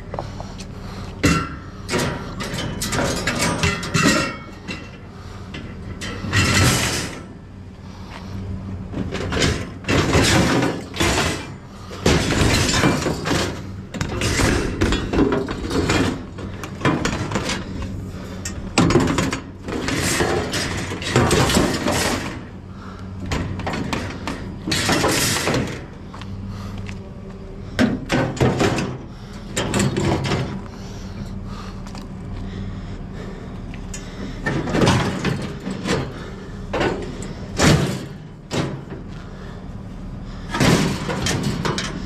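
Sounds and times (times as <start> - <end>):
low steady hum: 0.0 - 42.0
wire racks clattering and scraping: 1.2 - 7.6, 8.9 - 26.5, 27.7 - 31.7, 33.9 - 39.3, 40.2 - 42.0.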